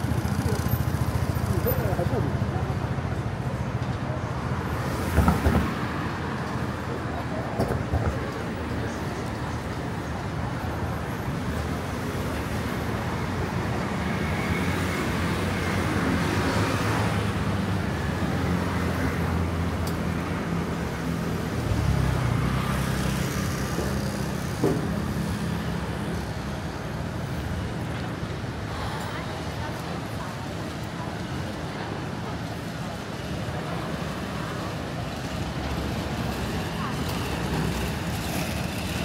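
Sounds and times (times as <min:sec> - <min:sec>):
car and scooter engines passing: 0:00.0 - 0:39.0.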